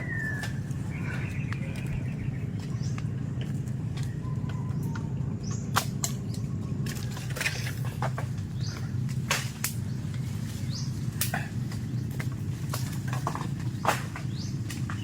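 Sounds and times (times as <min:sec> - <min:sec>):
twigs and leaves rustling: 0:00.0 - 0:15.0
wind rumble on microphone: 0:00.0 - 0:15.0.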